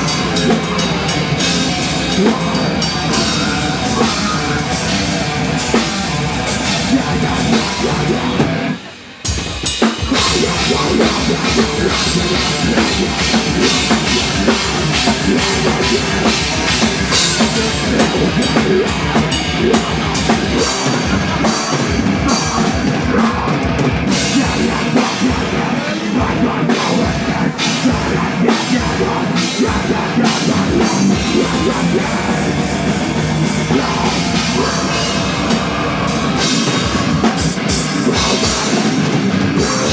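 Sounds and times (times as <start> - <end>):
drums and cymbals: 0.0 - 39.9
heavy rock band playing: 0.0 - 39.9.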